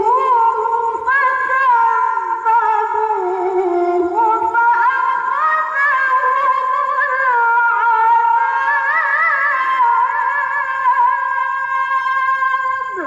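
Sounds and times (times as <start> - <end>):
girl reciting melodically: 0.0 - 13.0.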